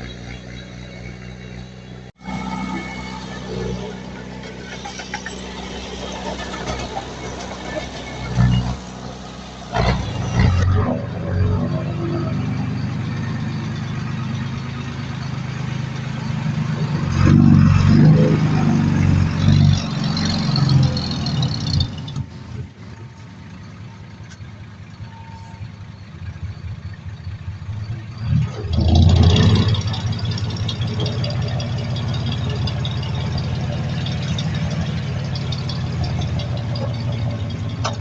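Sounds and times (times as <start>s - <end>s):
heavy diesel engines running: 0.0s - 38.0s.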